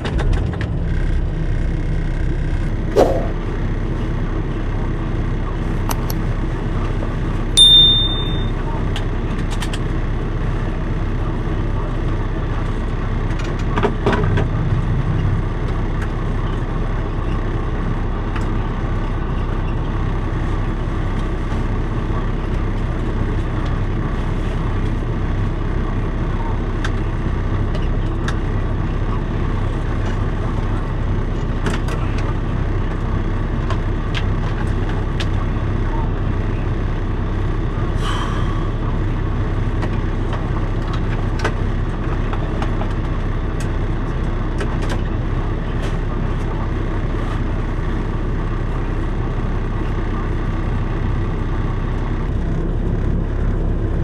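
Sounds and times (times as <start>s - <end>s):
diesel engine idling: 0.6s - 54.0s.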